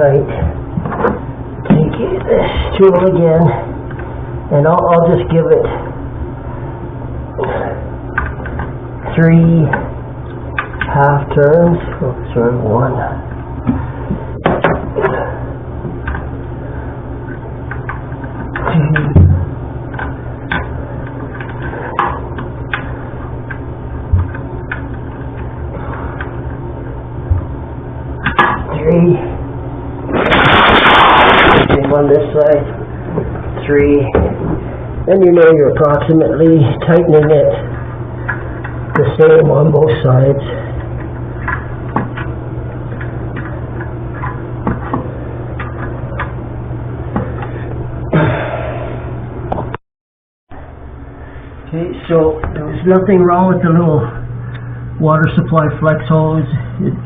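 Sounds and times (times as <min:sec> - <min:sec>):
steady low hum: 0:00.0 - 0:49.8, 0:50.5 - 0:57.0.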